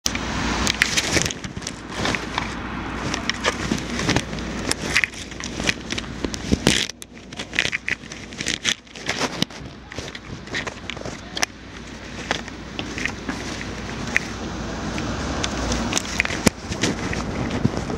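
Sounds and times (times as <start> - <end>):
low steady rumble: 0.1 - 17.9.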